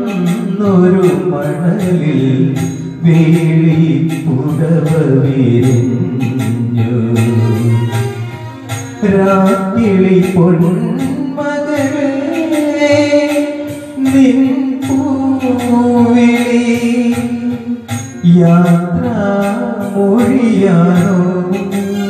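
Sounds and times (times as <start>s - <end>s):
backing music with percussion beat: 0.0s - 22.0s
man singing into a microphone: 0.0s - 22.0s.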